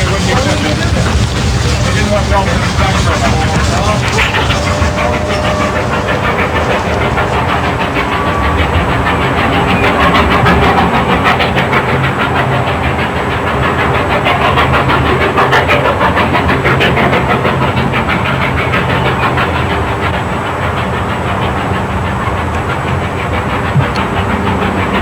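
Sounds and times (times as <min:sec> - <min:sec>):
steam train running: 0:00.0 - 0:25.0.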